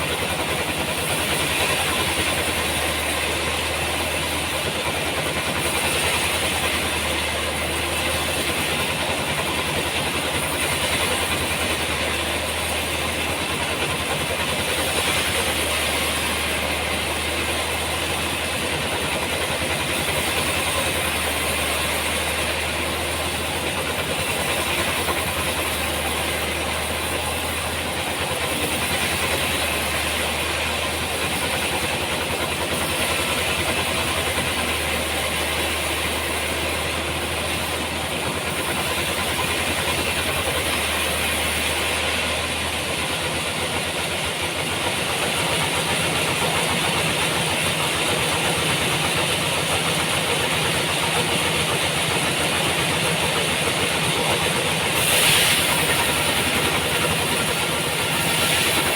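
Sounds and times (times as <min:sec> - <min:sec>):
continuous machinery hiss: 0:00.0 - 0:58.9
sawmill engine hum: 0:00.0 - 0:58.9.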